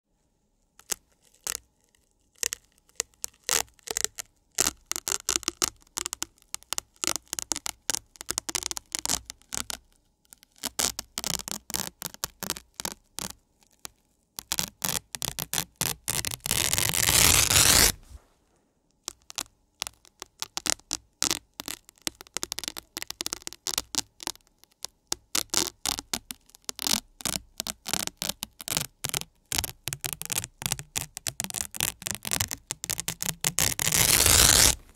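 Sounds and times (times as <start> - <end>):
velcro tearing: 0.8 - 18.3, 19.0 - 34.9.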